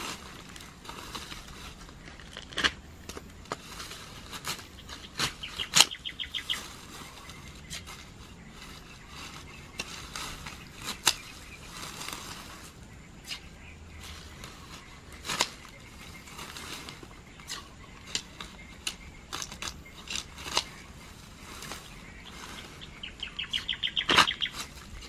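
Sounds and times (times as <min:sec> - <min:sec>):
rustling stems and leaves: 0:00.0 - 0:25.0
shears snipping: 0:00.0 - 0:25.0.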